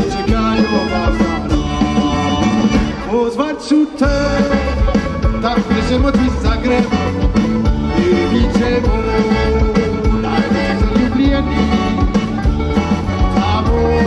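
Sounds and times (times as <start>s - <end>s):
man singing: 0.0s - 12.2s, 13.0s - 14.0s
live pop band with drums: 0.0s - 14.0s.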